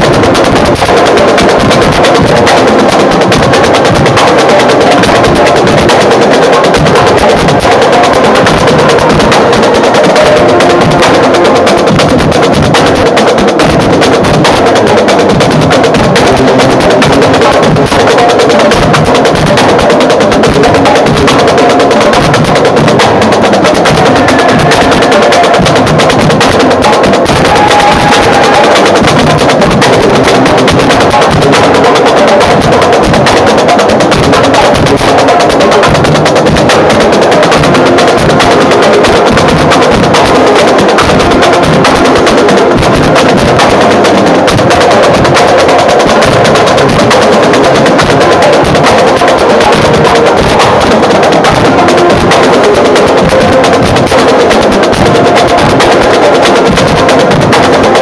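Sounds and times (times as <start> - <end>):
marching band playing: 0.0 - 58.0
rapid drum hits: 0.0 - 58.0.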